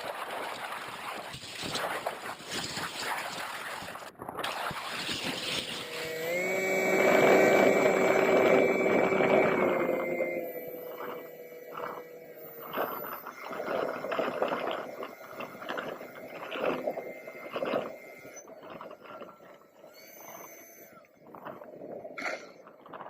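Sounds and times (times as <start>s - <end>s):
electric motor whine: 0.0s - 23.0s
wind buffeting microphone: 0.0s - 23.0s.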